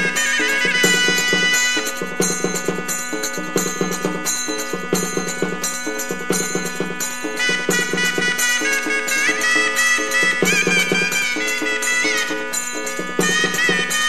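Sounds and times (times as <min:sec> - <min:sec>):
frame drum strokes: 0:00.0 - 0:14.0
wavering melody: 0:00.0 - 0:14.0.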